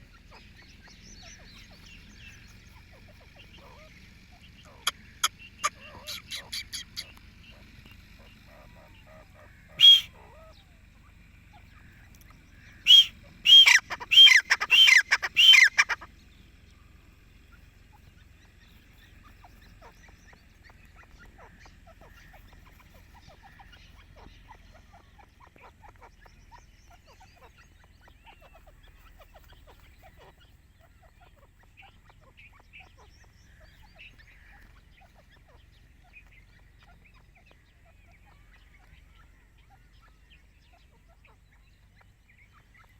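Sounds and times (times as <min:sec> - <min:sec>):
faint bird chirps: 0:00.0 - 0:42.9
francolin calling: 0:00.0 - 0:42.9.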